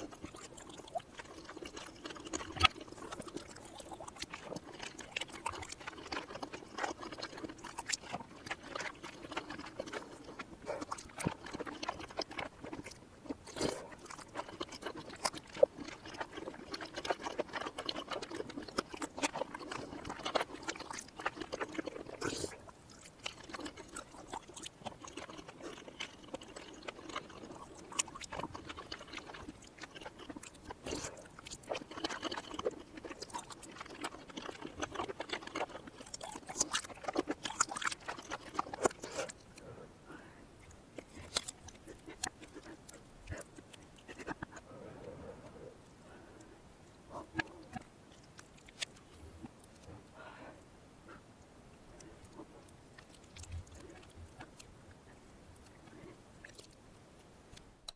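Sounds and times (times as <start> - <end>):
chewing clicks and smacks: 0.0 - 39.7, 40.6 - 44.7, 46.9 - 49.9, 51.4 - 57.9.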